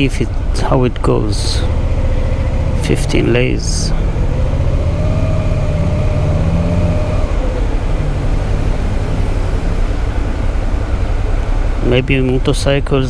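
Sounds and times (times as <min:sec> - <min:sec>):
motorcycle engine rumbling: 0:00.0 - 0:12.6.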